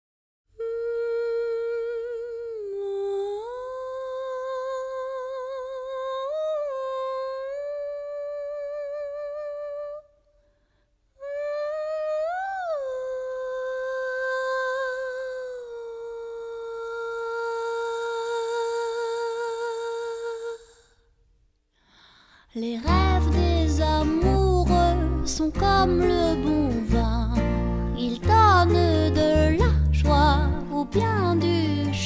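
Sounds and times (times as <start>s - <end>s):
wordless female vocal melody: 0.6s - 10.5s, 11.2s - 21.2s, 21.8s - 32.0s.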